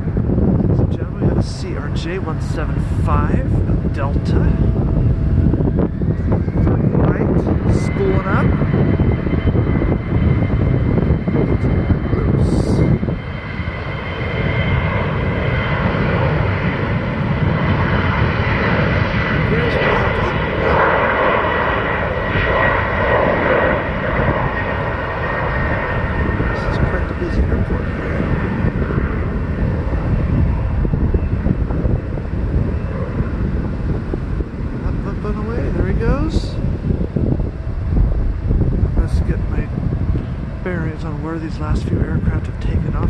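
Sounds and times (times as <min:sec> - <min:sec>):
high engine whine: 0:00.0 - 0:43.0
jet engines rumbling: 0:00.0 - 0:43.0
wind buffeting microphone: 0:00.0 - 0:43.0.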